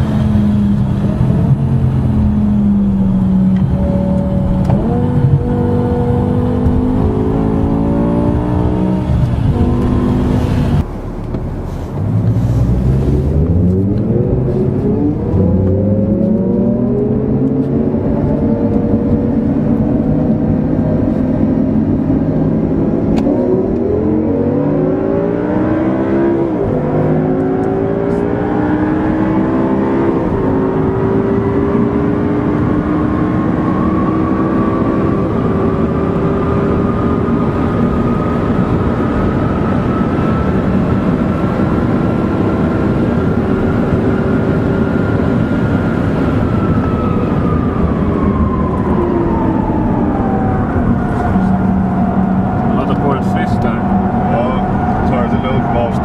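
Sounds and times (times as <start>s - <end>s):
sports car engine accelerating: 0.0s - 56.0s.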